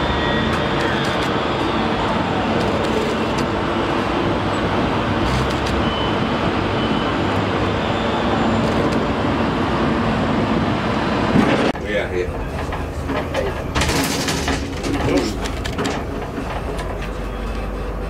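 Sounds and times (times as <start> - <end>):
crane machinery rumble: 0.0 - 18.0.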